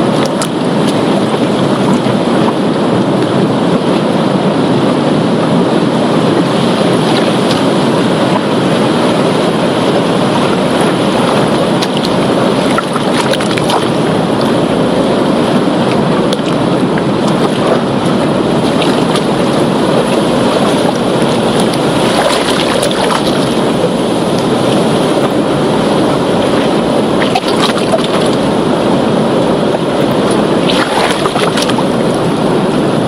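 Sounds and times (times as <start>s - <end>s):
surf breaking over rocks: 0.0s - 33.0s.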